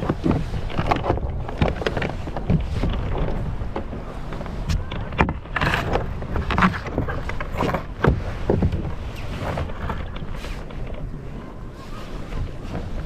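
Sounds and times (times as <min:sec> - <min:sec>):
knocks and clatter on kayak: 0:00.0 - 0:13.0
wind rumble on microphone: 0:00.0 - 0:13.0.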